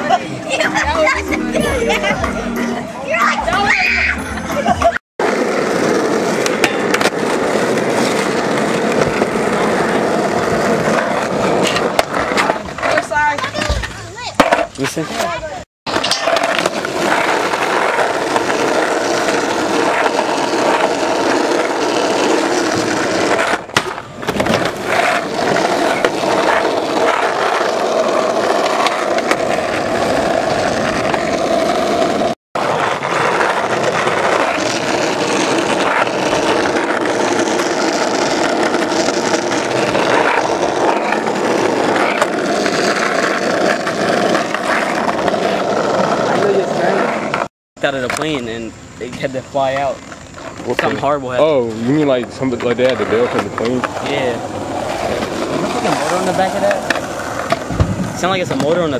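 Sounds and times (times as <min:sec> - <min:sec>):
skateboard wheels rolling on asphalt: 0:00.0 - 0:58.9.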